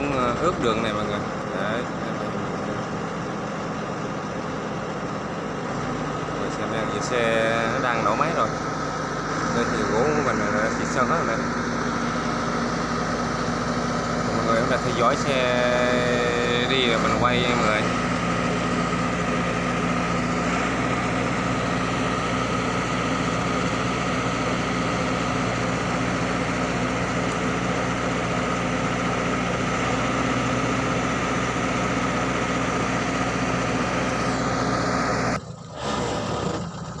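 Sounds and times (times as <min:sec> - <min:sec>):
steady whine: 0:00.0 - 0:37.0
truck engine idling: 0:00.0 - 0:37.0.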